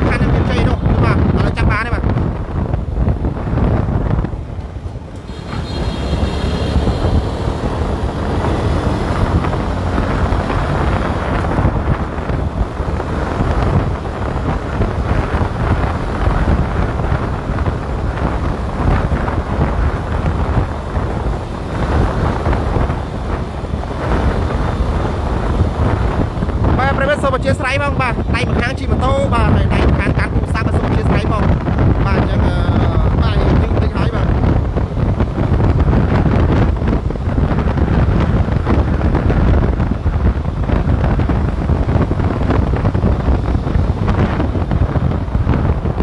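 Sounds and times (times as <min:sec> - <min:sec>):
vehicle engine rumble: 0:00.0 - 0:46.0
wind buffeting microphone: 0:00.0 - 0:46.0.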